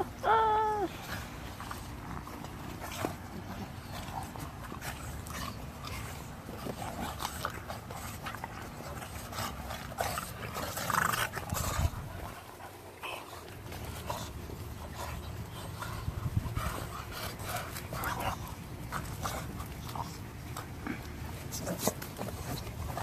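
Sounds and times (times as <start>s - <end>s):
dog vocal noises: 0.0s - 23.0s
dogs scuffling and rustling: 0.9s - 23.0s.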